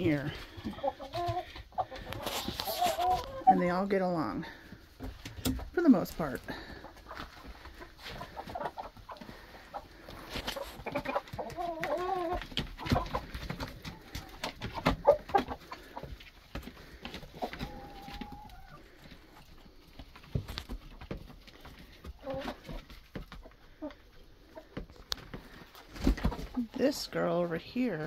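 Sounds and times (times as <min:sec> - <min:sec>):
roosters and hens clucking: 0:00.0 - 0:28.0.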